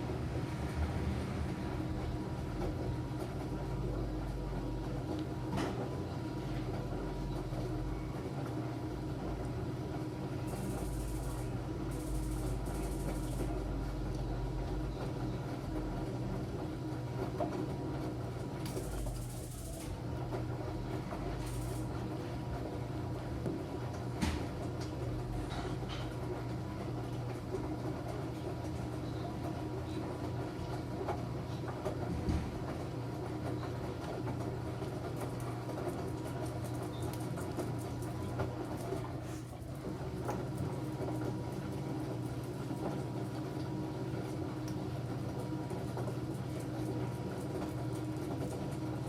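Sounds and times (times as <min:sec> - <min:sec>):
washing machine motor hum: 0:00.0 - 0:49.0.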